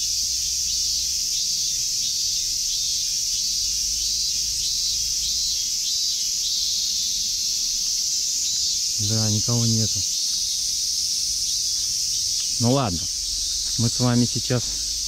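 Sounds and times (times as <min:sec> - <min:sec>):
cicadas singing: 0:00.0 - 0:15.0.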